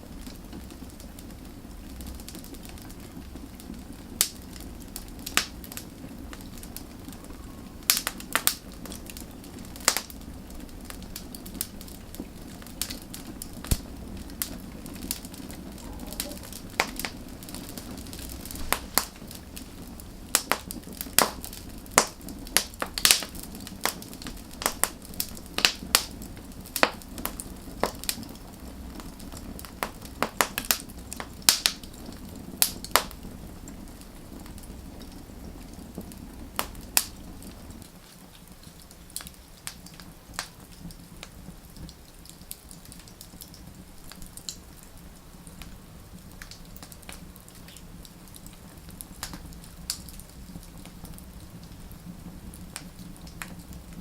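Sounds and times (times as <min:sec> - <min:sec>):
low rush of fire: 0:00.0 - 0:54.0
wood fire crackling and popping: 0:00.0 - 0:54.0.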